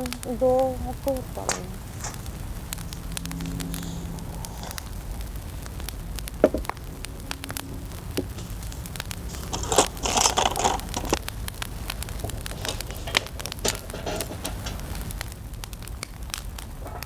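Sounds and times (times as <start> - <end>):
low wind rumble: 0.0 - 17.0
rustling: 0.0 - 17.0
sharp crackles and clicks: 0.0 - 17.0.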